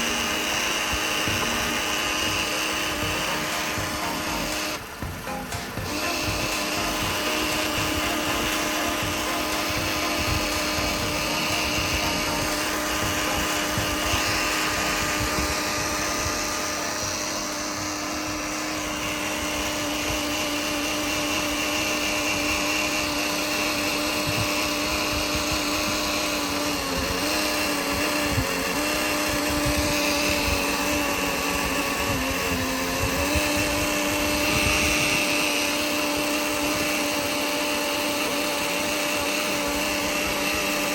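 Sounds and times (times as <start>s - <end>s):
electric water pump humming: 0.0s - 40.9s.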